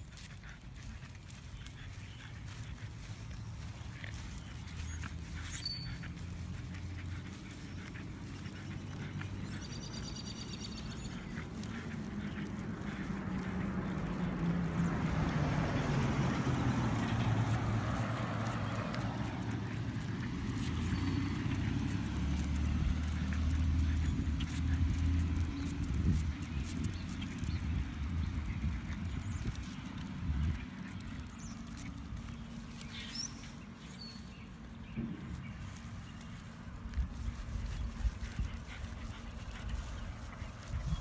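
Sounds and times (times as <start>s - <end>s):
low engine hum: 0.0s - 41.0s
car passing: 0.1s - 40.9s.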